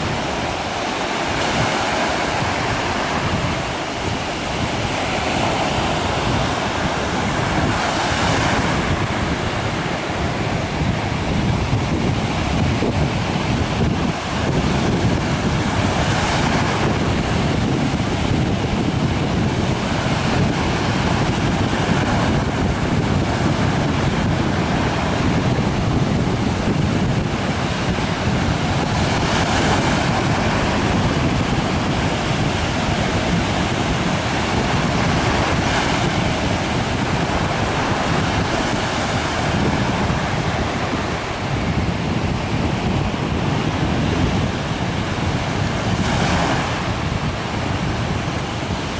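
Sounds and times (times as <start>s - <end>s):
waves breaking on beach: 0.0s - 48.9s
wind buffeting microphone: 0.0s - 48.9s.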